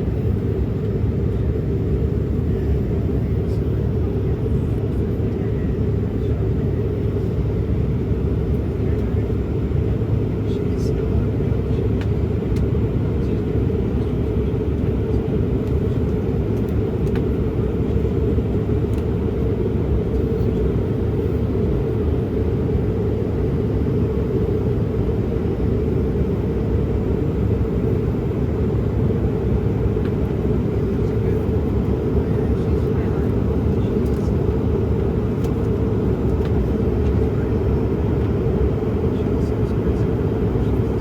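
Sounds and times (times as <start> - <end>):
jet airliner rumble in flight: 0.0 - 41.0.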